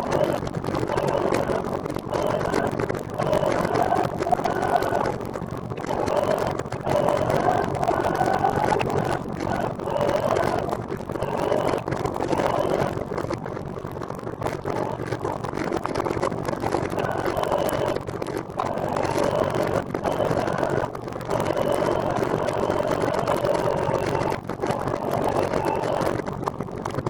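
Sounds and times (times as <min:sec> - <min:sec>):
faint whine: 0:00.0 - 0:27.0.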